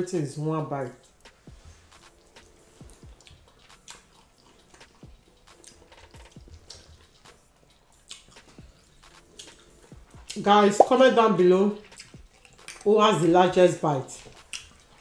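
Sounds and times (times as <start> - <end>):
wet chewing and smacking: 0.9 - 10.9, 11.7 - 13.0, 14.1 - 15.0.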